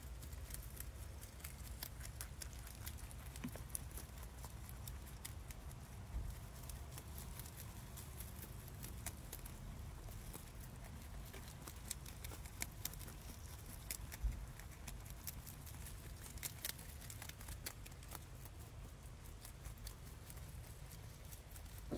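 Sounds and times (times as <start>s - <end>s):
rabbit chewing greens: 0.0s - 21.9s.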